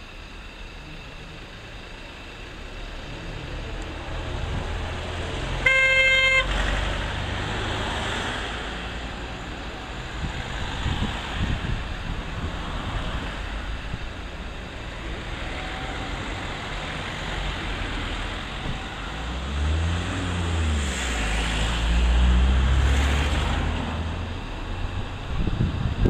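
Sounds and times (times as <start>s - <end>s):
low propeller hum: 0.0s - 26.0s.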